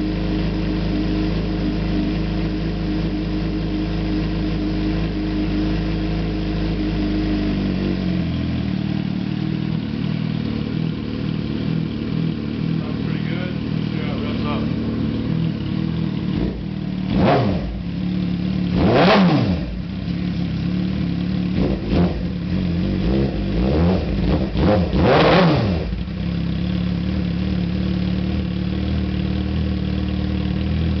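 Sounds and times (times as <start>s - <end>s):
motorcycle engine idling: 0.0s - 25.0s, 25.7s - 31.0s
motorcycle engine revving: 0.0s - 31.0s.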